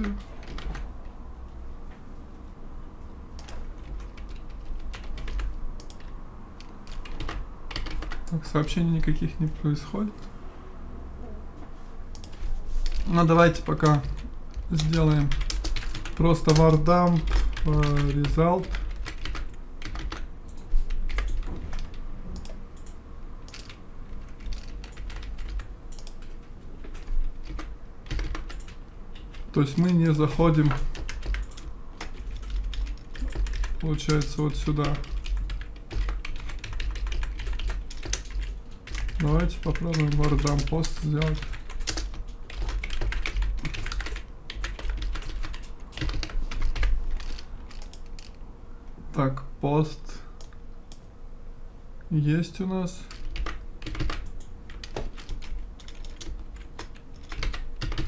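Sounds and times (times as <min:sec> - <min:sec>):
computer keyboard typing: 0:00.0 - 0:01.2, 0:03.4 - 0:09.9, 0:12.1 - 0:48.4, 0:53.1 - 0:58.0
low steady hum: 0:00.0 - 0:58.0.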